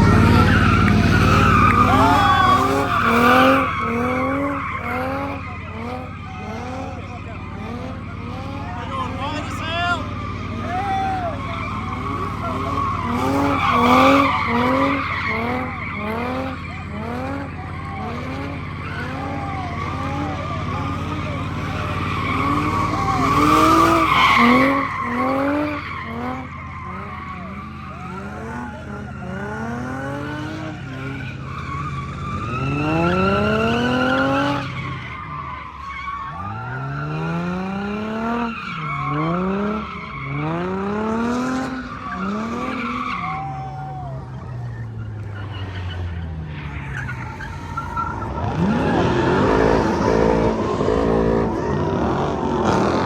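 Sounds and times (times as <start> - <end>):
car engine revving: 0.0 - 53.0
tire squealing: 0.0 - 53.0.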